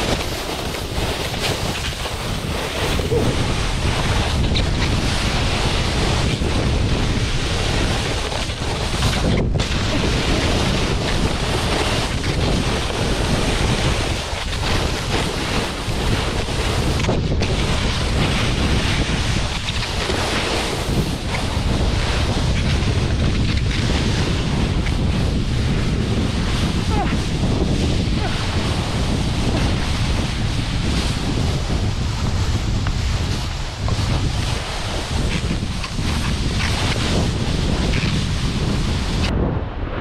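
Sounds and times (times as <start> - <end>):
snowboard scraping over snow: 0.0 - 40.0
wind on microphone: 0.0 - 40.0.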